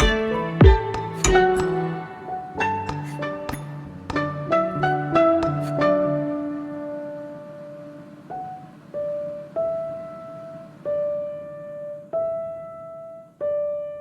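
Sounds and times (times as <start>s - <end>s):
slow piano notes: 0.0s - 14.0s.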